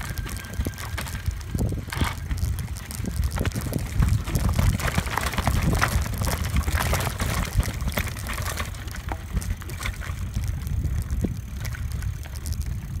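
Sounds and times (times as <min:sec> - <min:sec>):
bike rattling over bumps: 0:00.0 - 0:13.0
tyres crunching gravel: 0:00.0 - 0:13.0
wind buffeting microphone: 0:00.0 - 0:13.0.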